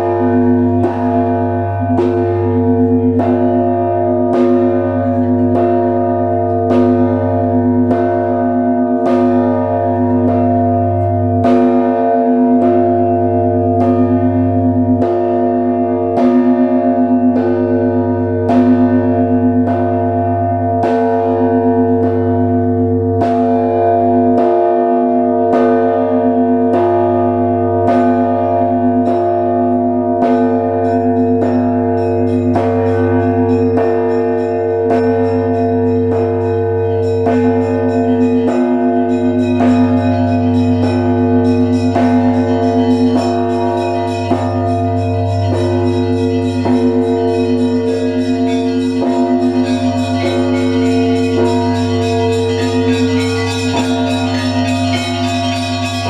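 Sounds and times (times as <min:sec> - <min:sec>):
deep bell booming: 0:00.0 - 0:56.0
small bells ringing rhythmically: 0:00.0 - 0:56.0.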